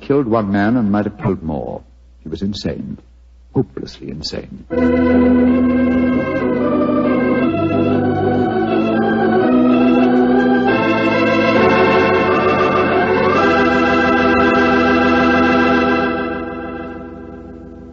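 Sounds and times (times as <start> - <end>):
dramatic organ chords: 0.0 - 1.8, 4.7 - 17.9.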